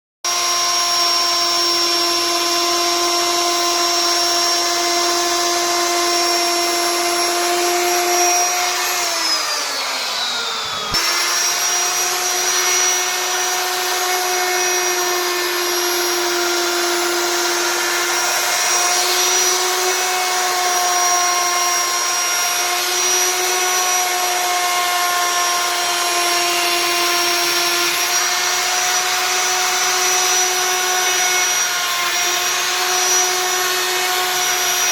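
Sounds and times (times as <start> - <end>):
router spindle whining: 0.3 - 34.9.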